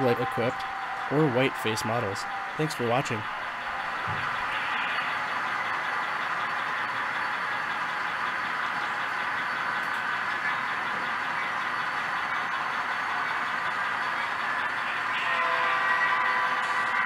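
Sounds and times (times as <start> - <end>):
diesel engine sound through small speakers: 0.0 - 17.0.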